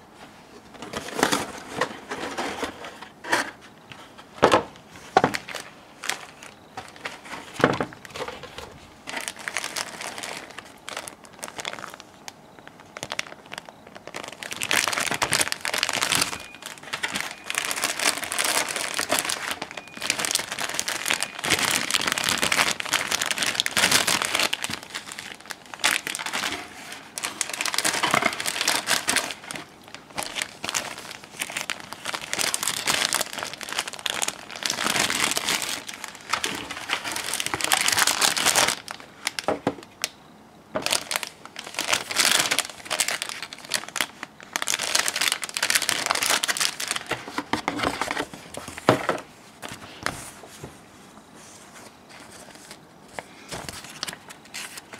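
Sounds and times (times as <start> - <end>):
plastic bags crinkling: 4.0 - 40.2, 40.8 - 50.6, 51.7 - 54.9.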